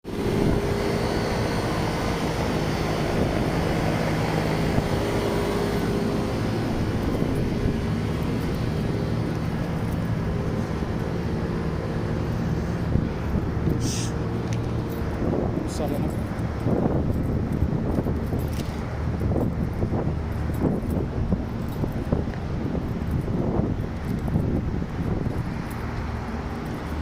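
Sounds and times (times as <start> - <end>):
air conditioning unit drone: 0.0 - 27.0.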